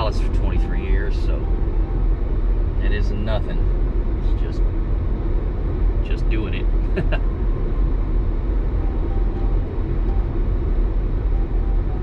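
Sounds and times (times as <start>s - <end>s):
engine and road rumble in car: 0.0s - 12.0s.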